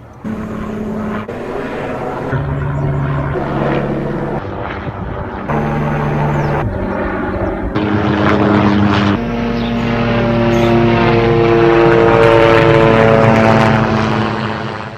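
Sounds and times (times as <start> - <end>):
helicopter flying overhead: 0.0 - 14.9.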